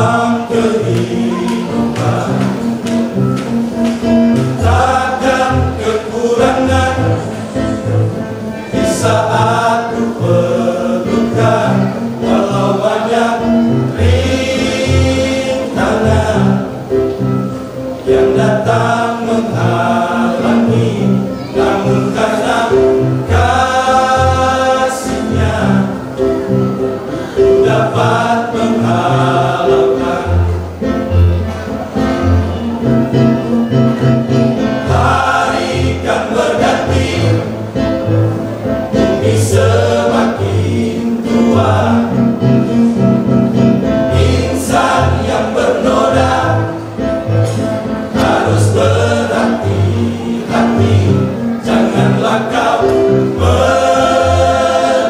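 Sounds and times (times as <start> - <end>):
choir singing gospel: 0.0 - 55.0.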